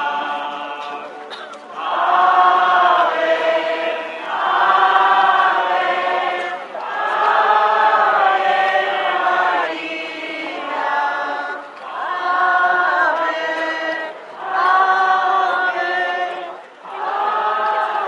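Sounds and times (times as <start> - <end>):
group singing a hymn: 0.0 - 18.0.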